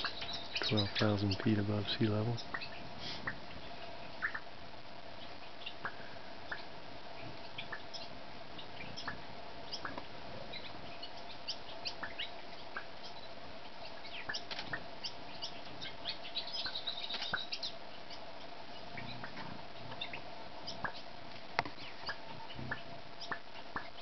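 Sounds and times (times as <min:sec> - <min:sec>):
small birds chip notes: 0:00.0 - 0:04.5, 0:05.2 - 0:24.0
faint steady hum: 0:00.0 - 0:24.0.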